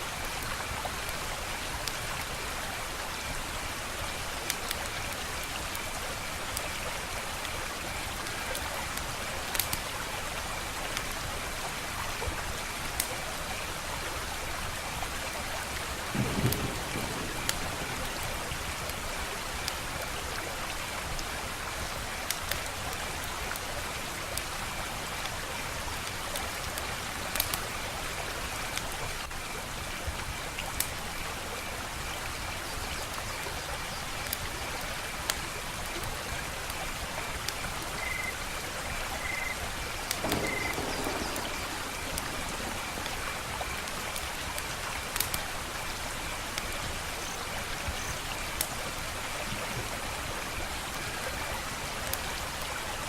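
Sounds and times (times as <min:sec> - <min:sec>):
wood fire hissing and crackling: 0:00.0 - 0:53.0.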